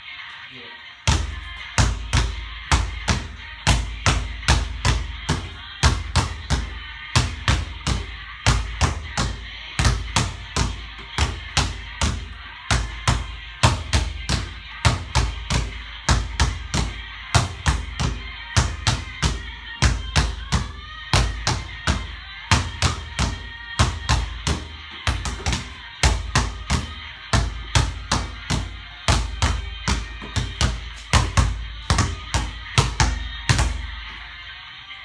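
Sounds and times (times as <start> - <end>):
background music: 0.0 - 35.0
basketball dribbling on a court: 1.1 - 34.3.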